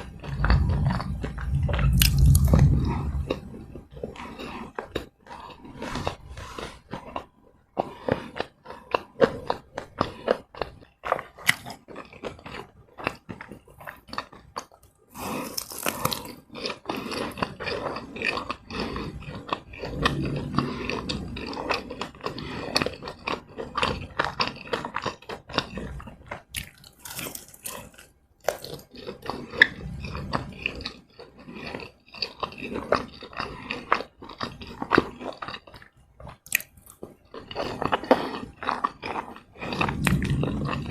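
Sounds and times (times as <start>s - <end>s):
crunchy snack chewing: 0.0s - 40.9s.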